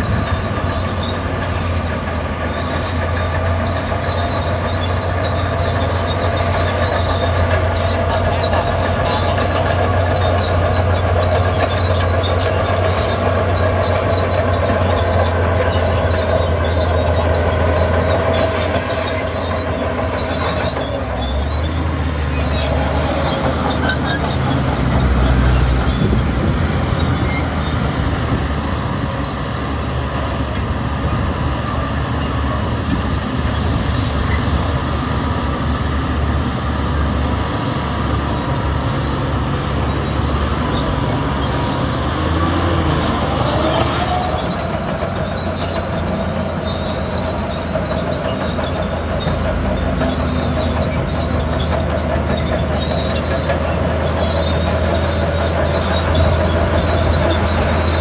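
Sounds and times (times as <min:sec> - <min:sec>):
bulldozer diesel engine running: 0:00.0 - 0:58.0
steel crawler tracks squealing: 0:00.0 - 0:58.0.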